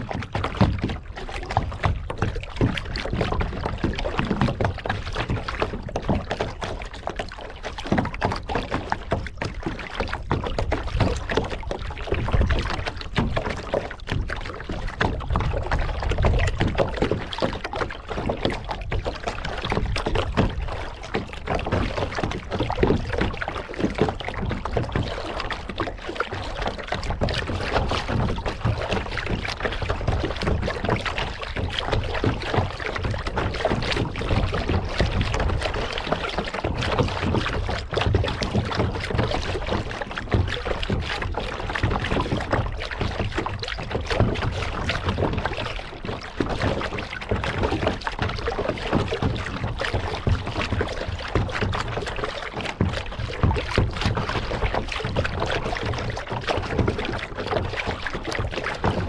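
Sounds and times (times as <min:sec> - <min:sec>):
water splashing around a kayak: 0:00.0 - 0:59.0
wind rumble on microphone: 0:00.0 - 0:59.0.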